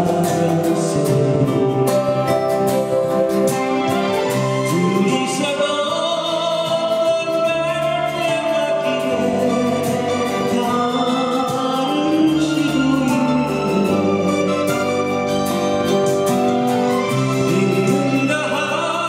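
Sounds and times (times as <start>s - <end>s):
person singing slow song: 0.0s - 3.3s, 4.4s - 16.0s, 17.1s - 19.0s
acoustic guitar strumming: 0.0s - 19.0s.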